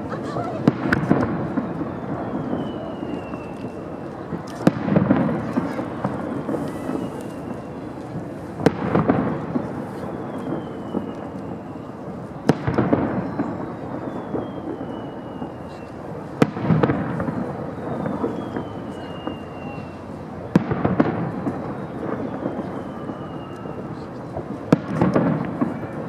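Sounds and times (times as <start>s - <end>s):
descending firework whistles: 0.0s - 26.0s.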